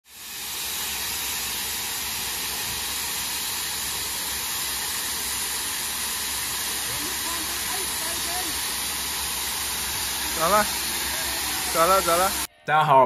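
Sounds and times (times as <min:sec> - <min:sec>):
steam hissing: 0:00.0 - 0:12.5.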